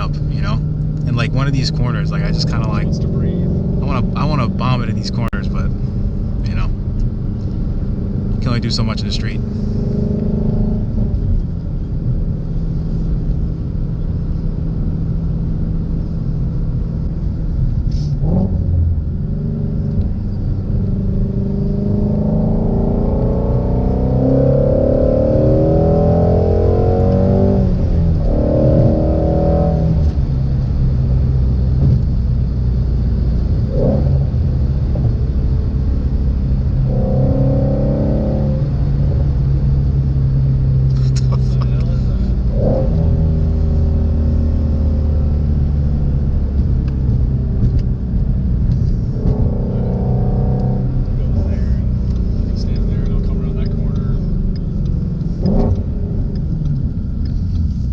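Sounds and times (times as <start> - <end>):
car engine revving while driving: 0.0 - 57.9.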